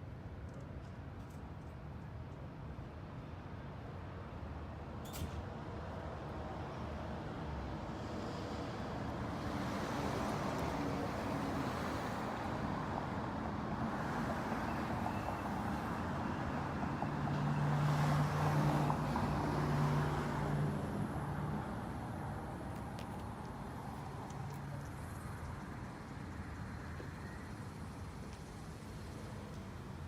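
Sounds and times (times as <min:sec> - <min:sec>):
road traffic: 0:03.7 - 0:30.0.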